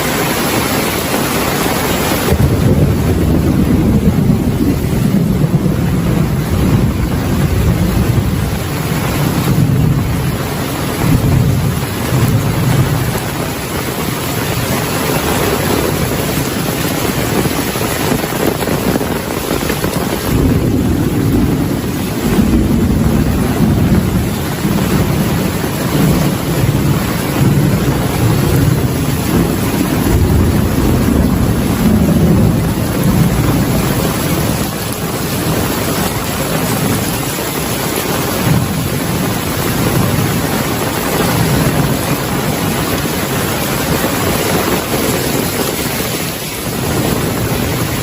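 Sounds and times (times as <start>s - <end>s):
heavy rain pouring: 0.0s - 48.0s
rolling thunder: 0.0s - 48.0s.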